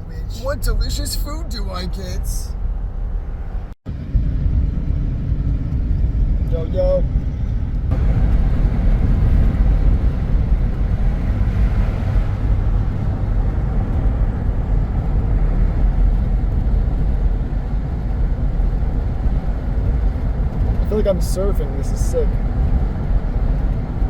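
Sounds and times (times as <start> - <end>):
car road noise rumble: 0.0 - 24.0.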